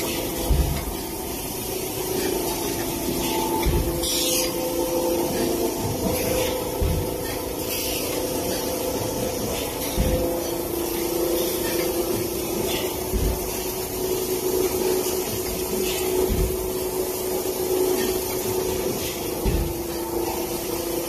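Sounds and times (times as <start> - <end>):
machine hum and hiss: 0.0 - 21.0.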